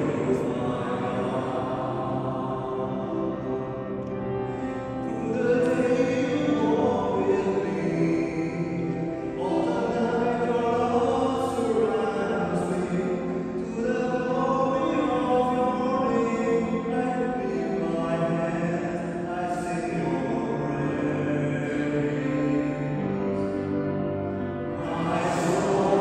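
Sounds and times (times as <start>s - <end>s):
voices singing slow hymn: 0.0s - 26.0s.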